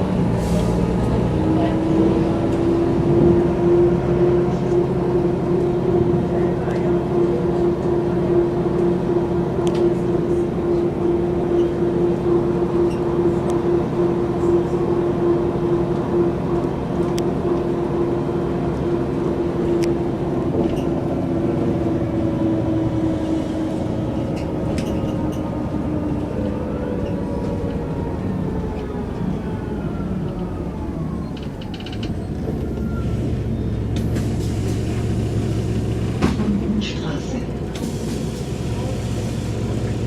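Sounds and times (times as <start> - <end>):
bus engine drone with whine: 0.0 - 40.0.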